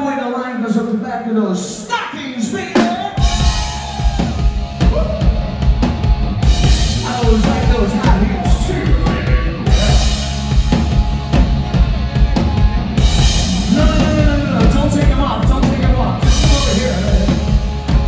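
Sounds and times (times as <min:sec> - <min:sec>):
drum kit beat: 0:02.7 - 0:18.0
rock band playing: 0:02.7 - 0:18.0.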